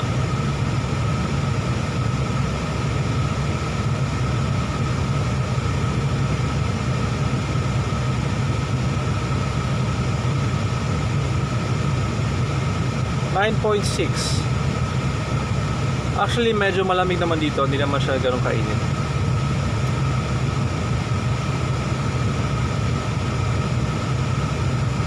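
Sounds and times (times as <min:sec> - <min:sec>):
car air conditioning blower: 0:00.0 - 0:25.0
car engine running: 0:00.0 - 0:25.0.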